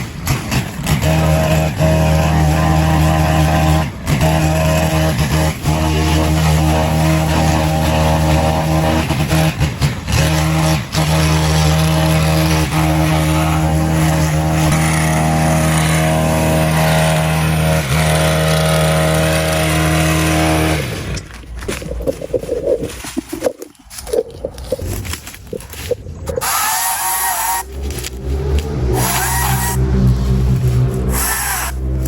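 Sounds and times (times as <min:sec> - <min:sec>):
petrol engine running: 0:00.0 - 0:32.0.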